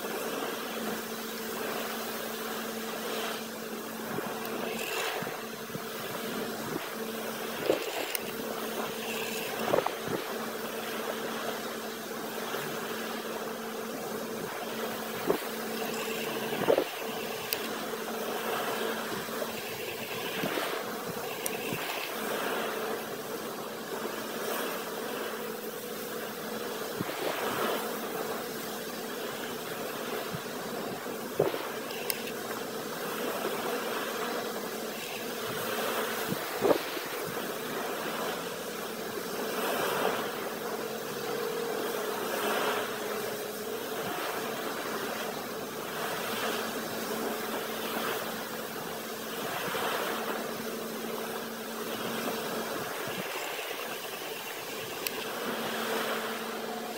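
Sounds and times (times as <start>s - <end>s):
diesel machinery humming: 0.0s - 56.9s.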